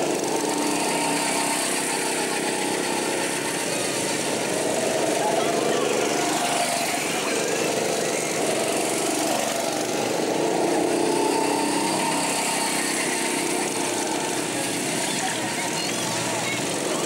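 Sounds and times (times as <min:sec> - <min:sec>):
go-kart engines revving: 0:00.0 - 0:17.0.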